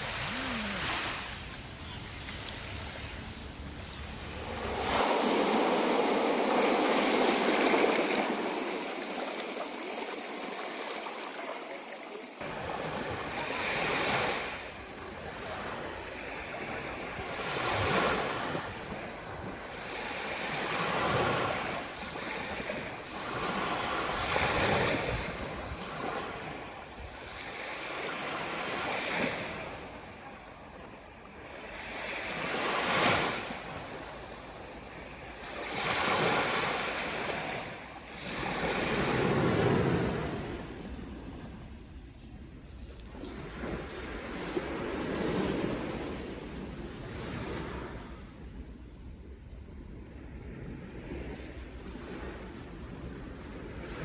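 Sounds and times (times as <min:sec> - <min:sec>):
waves breaking on shore: 0:00.0 - 0:41.7, 0:42.8 - 0:48.5.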